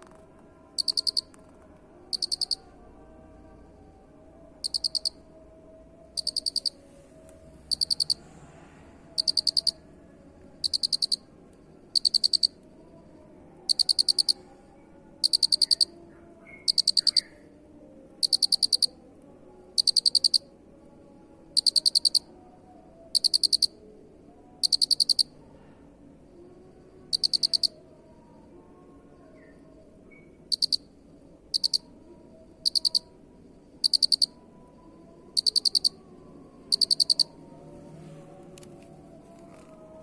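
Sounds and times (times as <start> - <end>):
cricket chirping: 0.6 - 1.4, 2.0 - 6.8, 7.4 - 38.0.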